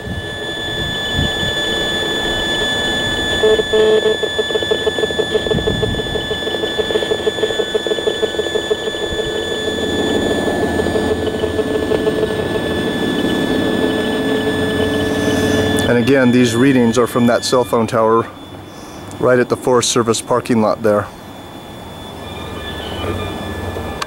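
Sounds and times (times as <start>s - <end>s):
radio signal hiss with high whistles: 0.0s - 24.0s
rapid pulsing buzz: 0.0s - 24.0s.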